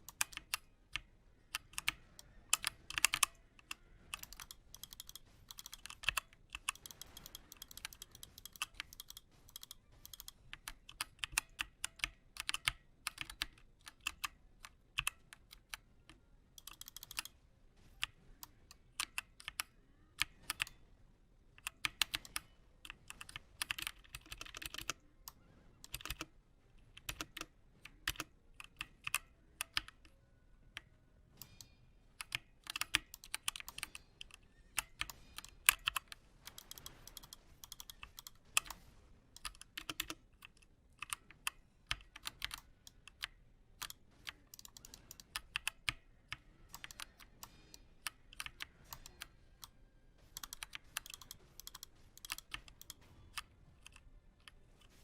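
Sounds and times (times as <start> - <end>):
mechanical keyboard typing: 0.0 - 20.8, 21.6 - 30.2, 30.8 - 55.0.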